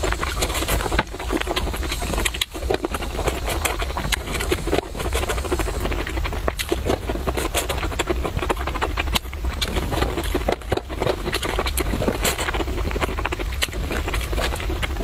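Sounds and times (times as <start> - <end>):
chewing broccoli crunching: 0.0 - 15.0
steady low hum: 0.0 - 15.0
wet mouth clicks: 0.0 - 15.0.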